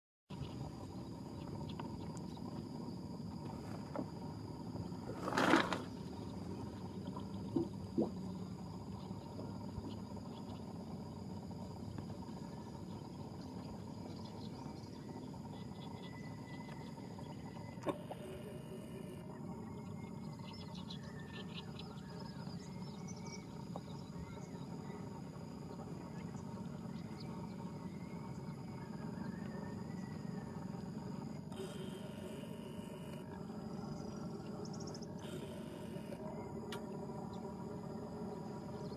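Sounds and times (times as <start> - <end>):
high insect drone: 0.3 - 38.9
low outdoor rumble: 0.3 - 38.9.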